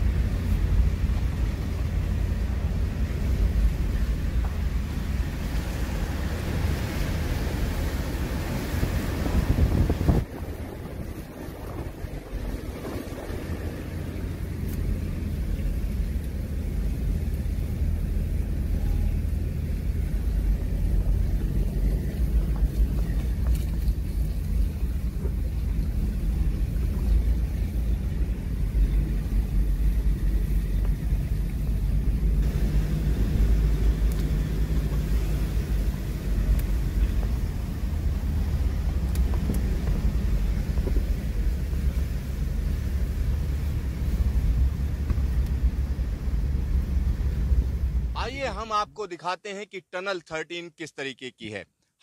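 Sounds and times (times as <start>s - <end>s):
vehicle engine and tyres on gravel: 0.0s - 48.8s.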